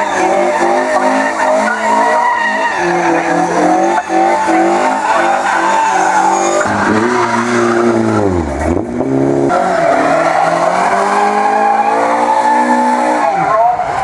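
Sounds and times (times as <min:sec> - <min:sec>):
rally car engines revving: 0:00.0 - 0:14.0
tyres spinning and screeching: 0:00.0 - 0:14.0.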